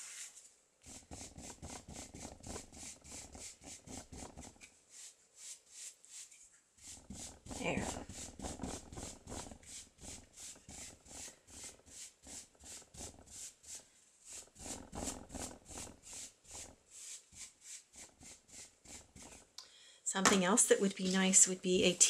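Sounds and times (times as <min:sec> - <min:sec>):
paintbrush scrubbing on fabric: 0:00.0 - 0:19.6.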